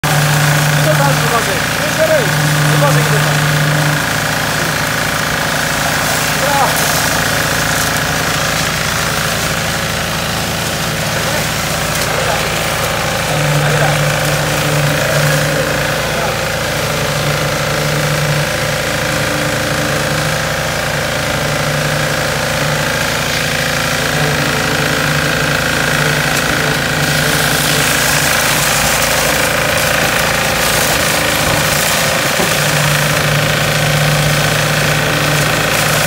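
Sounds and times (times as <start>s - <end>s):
machinery engine drone: 0.0s - 36.0s.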